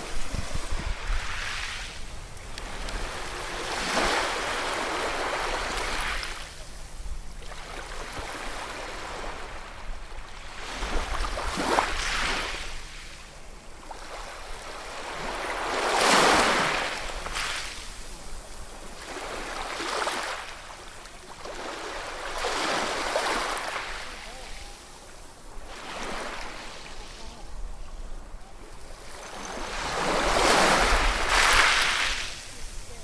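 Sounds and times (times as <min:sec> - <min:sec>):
ocean waves breaking on shore: 0:00.0 - 0:33.0.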